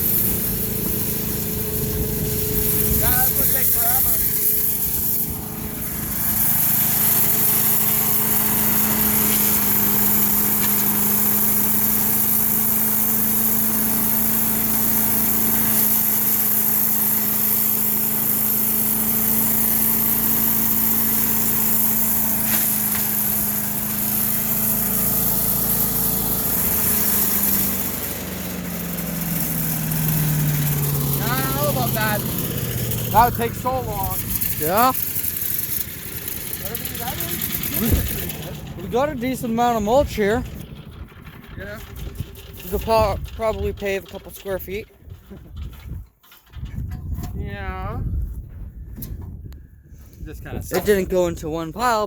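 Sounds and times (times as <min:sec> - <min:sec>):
wood chipper engine running: 0:00.0 - 0:49.2.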